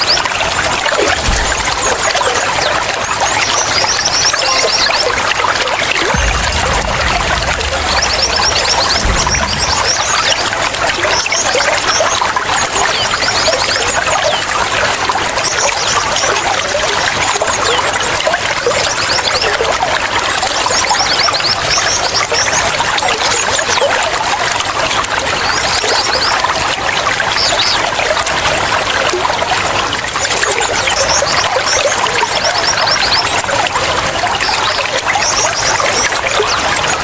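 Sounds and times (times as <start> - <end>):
water trickling and pouring: 0.0 - 37.0.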